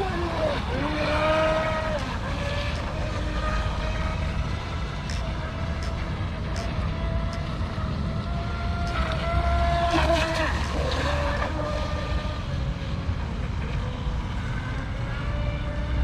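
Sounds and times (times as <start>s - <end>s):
electric motor high whine: 0.0s - 16.0s.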